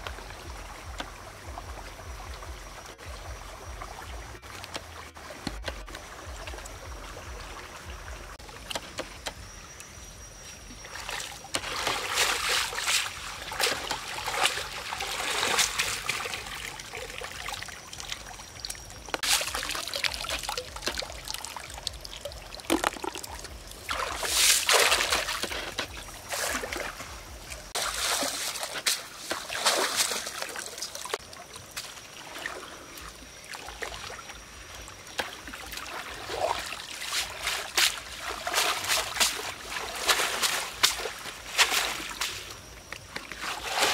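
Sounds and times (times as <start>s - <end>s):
water splashing and trickling: 0.0s - 43.9s.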